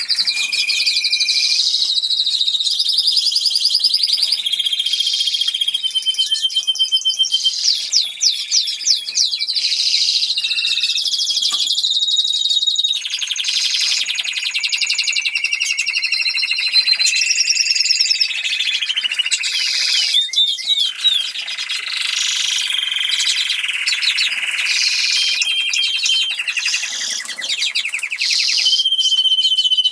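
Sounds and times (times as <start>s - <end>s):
canary singing rapid trills: 0.0s - 29.9s.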